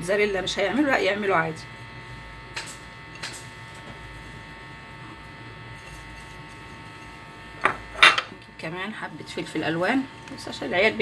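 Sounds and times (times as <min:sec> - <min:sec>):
electrical buzz: 0:00.0 - 0:11.0.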